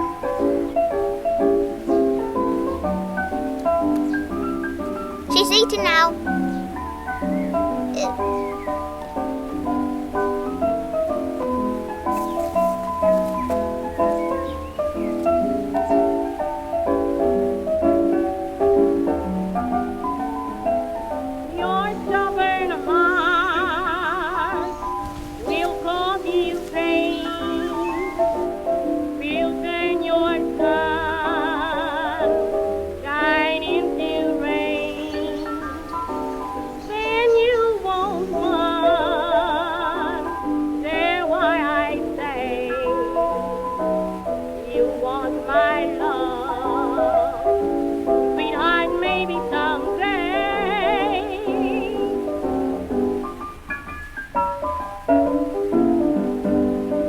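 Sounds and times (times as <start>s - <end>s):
old jazz blues record music: 0.0s - 57.0s.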